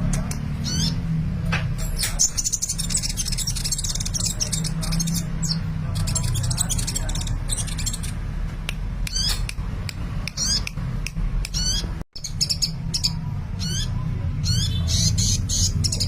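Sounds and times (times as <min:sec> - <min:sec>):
bird chirping: 0:00.0 - 0:08.3, 0:09.0 - 0:09.6, 0:10.2 - 0:10.8, 0:11.4 - 0:16.0.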